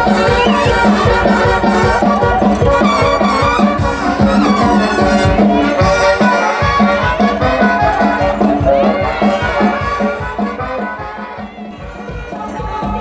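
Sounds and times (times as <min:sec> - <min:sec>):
brass band dance music: 0:00.0 - 0:13.0.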